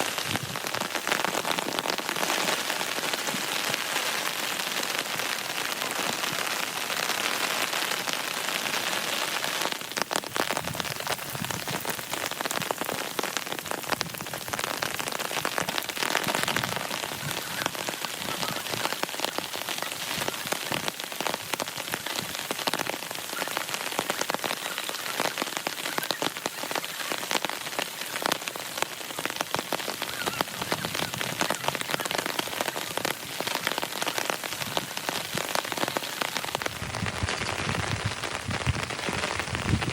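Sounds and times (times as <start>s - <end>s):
rain falling: 0.0s - 39.9s
raindrops hitting close by: 0.0s - 39.9s.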